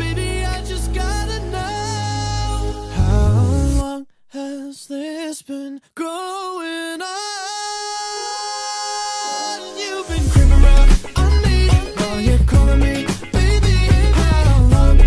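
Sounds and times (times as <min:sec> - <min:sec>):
person singing: 0:00.0 - 0:15.0
pop song: 0:00.0 - 0:15.0.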